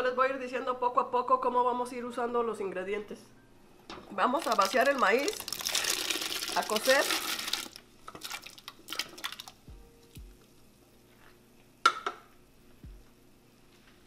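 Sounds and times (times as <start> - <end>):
quiet background music: 0.0 - 14.0.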